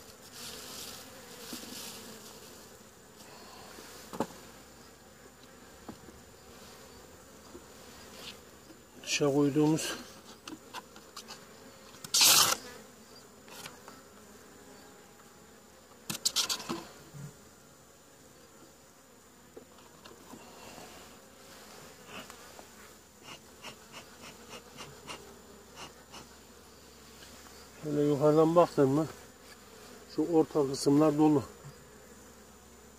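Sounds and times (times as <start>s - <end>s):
bees buzzing: 0.0s - 32.9s.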